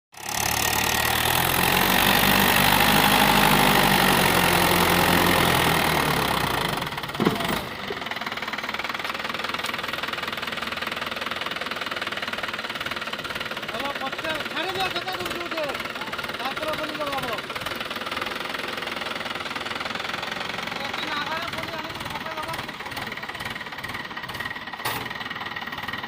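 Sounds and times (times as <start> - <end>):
tractor diesel engine running: 0.1 - 26.0.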